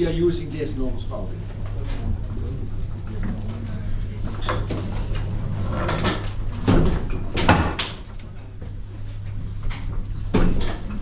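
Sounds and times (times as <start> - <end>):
low rumble of mill machinery: 0.0 - 11.0.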